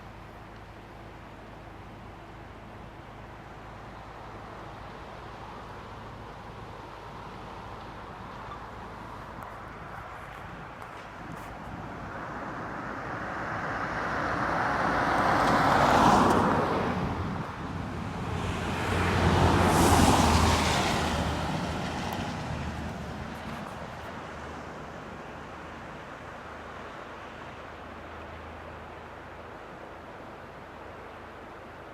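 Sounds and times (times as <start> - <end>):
low engine hum: 0.0 - 31.9
vehicles passing: 0.0 - 31.9.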